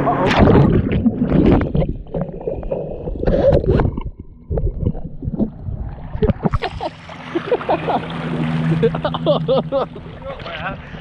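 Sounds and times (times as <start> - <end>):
lake water sloshing and gurgling: 0.0 - 11.0.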